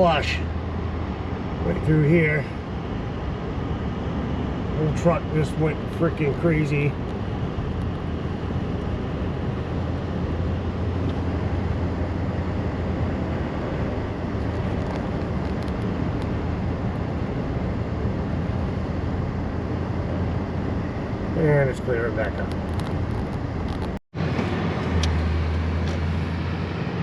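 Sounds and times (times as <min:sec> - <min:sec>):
engine and drivetrain hum: 0:00.0 - 0:27.0.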